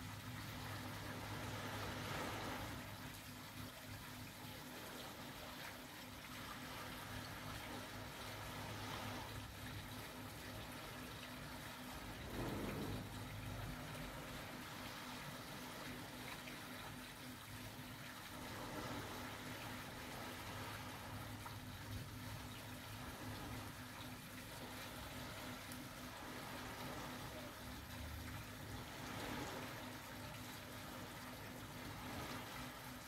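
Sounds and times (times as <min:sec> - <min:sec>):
small waves washing onto sand: 0:00.0 - 0:33.0.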